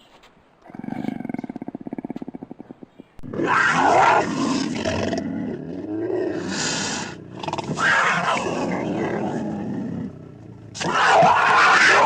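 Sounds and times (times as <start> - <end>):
large wild animal calling: 0.6 - 12.0.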